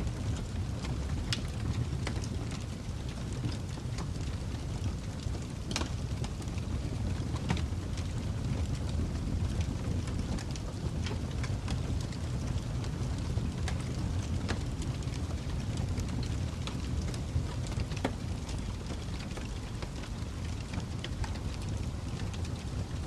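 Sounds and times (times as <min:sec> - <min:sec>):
flames rumbling: 0:00.0 - 0:23.0
wood fire pops and snaps: 0:00.1 - 0:23.0.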